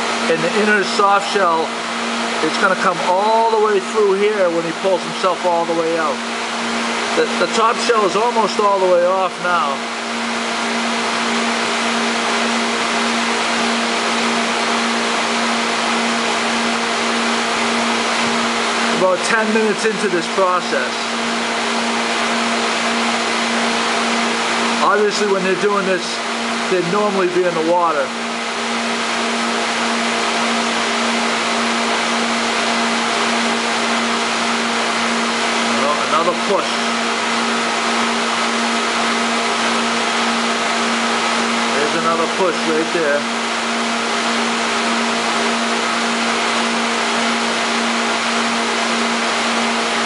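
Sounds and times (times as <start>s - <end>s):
machine hum with hiss: 0.0s - 50.0s
motor running: 0.0s - 50.0s.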